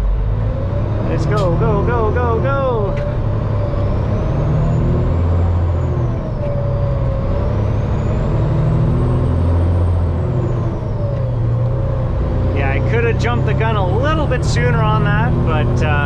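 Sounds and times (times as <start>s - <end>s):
truck diesel engine revving: 0.0s - 16.0s.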